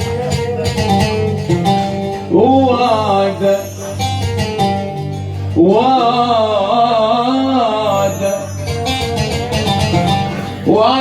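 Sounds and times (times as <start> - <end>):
man singing melismatic phrase: 0.0 - 4.0, 5.6 - 11.0
plucked string accompaniment: 0.0 - 11.0.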